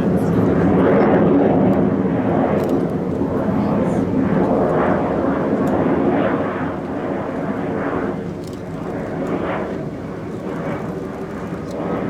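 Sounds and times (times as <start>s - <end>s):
aircraft engine flying past: 0.0s - 12.0s.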